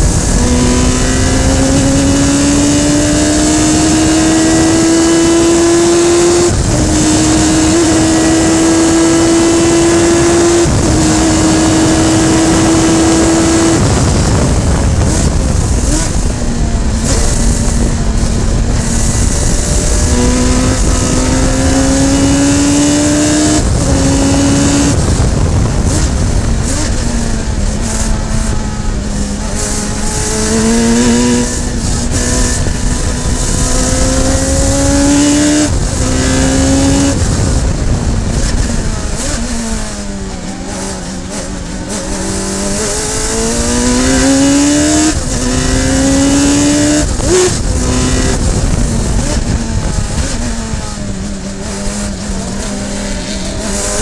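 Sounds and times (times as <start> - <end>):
race car engine accelerating: 0.0 - 54.0
wind and road rush: 0.0 - 54.0.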